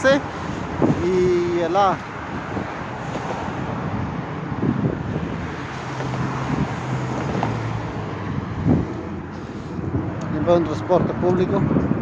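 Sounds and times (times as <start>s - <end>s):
road traffic passing: 0.0s - 12.0s
wind buffeting microphone: 0.0s - 12.0s.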